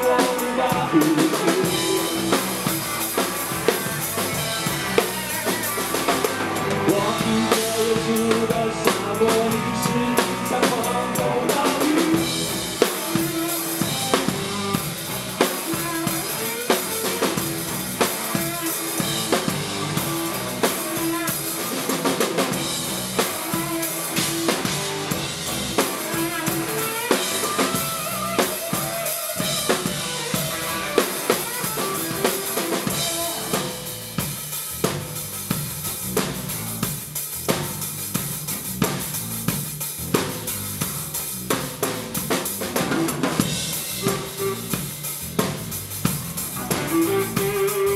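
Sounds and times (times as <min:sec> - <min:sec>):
drum kit kick snare and cymbals: 0:00.0 - 0:47.9
rock band playing: 0:00.0 - 0:47.9.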